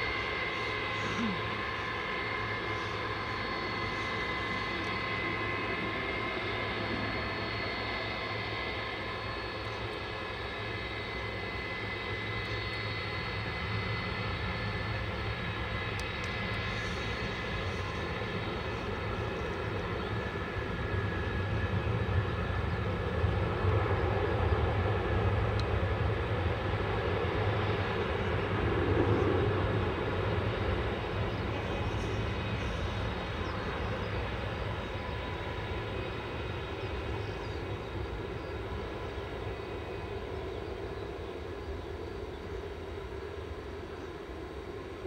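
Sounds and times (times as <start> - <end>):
jet engines at takeoff power: 0.0 - 45.0.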